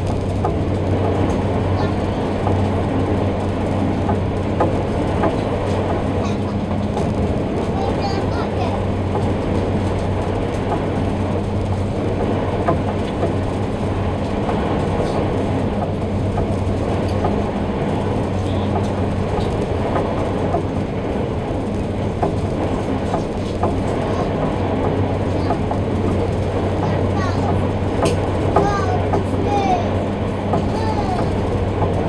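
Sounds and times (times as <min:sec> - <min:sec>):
constant rushing noise: 0:00.0 - 0:32.0
deep engine hum: 0:00.0 - 0:32.0.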